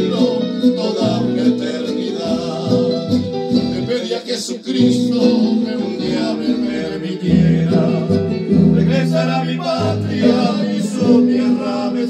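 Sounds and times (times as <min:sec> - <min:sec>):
man singing into a microphone: 0:00.0 - 0:03.0, 0:03.7 - 0:12.0
guitar strummed and plucked: 0:00.0 - 0:12.0.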